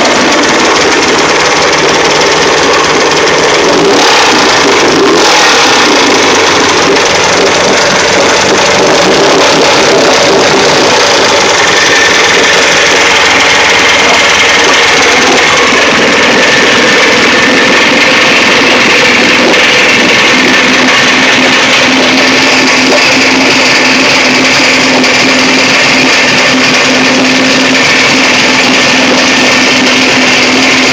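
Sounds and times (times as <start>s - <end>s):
outboard motor running: 0.0s - 30.9s.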